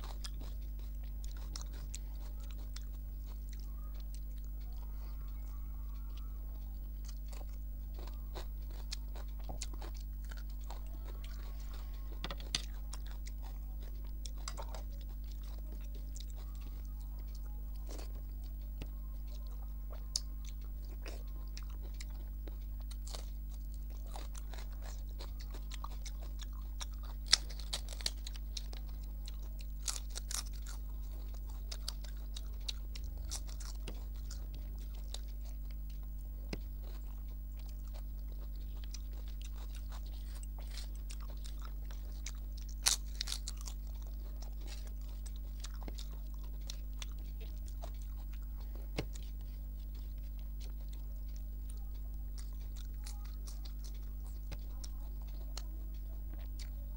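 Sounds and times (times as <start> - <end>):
person chewing with crunches: 0.0 - 56.9
steady low hum: 0.0 - 56.9.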